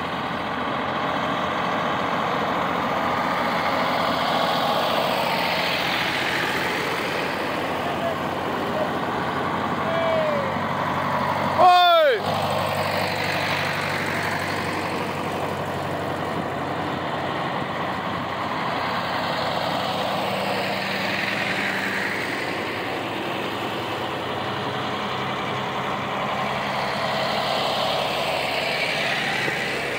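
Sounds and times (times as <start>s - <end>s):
tractor diesel engines running: 0.0s - 29.9s.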